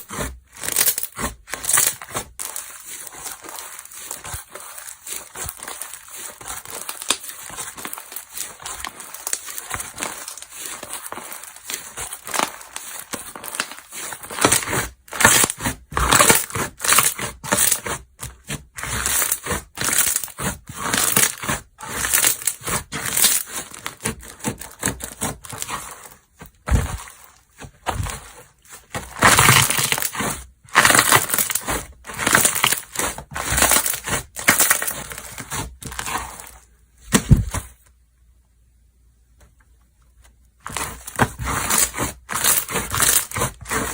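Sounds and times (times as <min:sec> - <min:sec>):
slime crunching and crackling: 0:00.0 - 0:36.6, 0:40.6 - 0:43.9.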